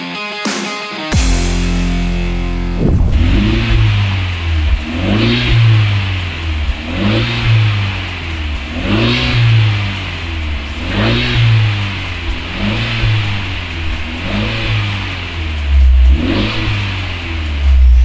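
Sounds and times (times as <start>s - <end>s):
car engine revving: 1.9s - 18.0s.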